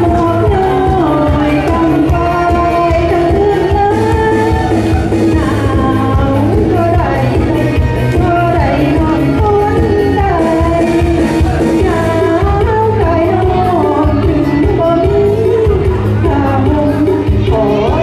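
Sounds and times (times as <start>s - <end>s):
pop backing track with beat: 0.0s - 18.0s
woman singing into a microphone: 0.0s - 18.0s.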